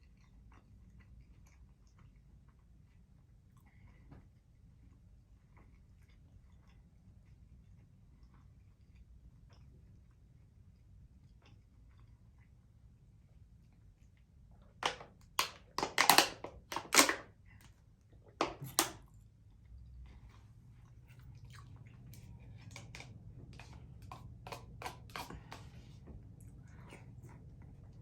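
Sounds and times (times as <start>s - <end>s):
soft chewing with clicks: 0.0s - 15.8s, 17.3s - 28.0s.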